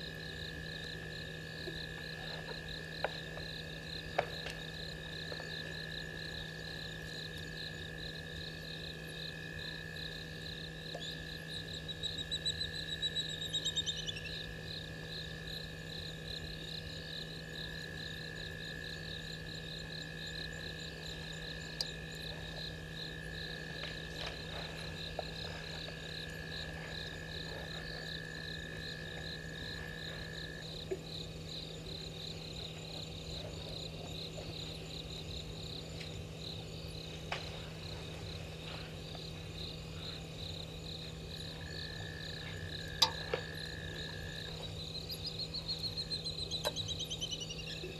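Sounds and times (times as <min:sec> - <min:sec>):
continuous high insect note: 0:00.0 - 0:47.9
insects pulsing trill: 0:00.0 - 0:47.9
low steady hum: 0:00.0 - 0:47.9.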